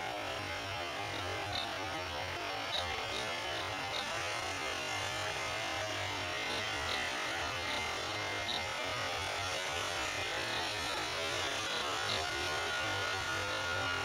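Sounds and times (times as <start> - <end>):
plane engine and propeller drone: 0.0 - 14.0.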